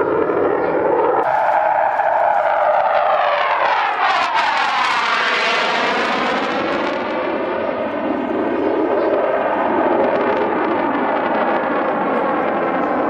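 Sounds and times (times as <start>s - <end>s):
jet flying past overhead: 0.0s - 13.0s.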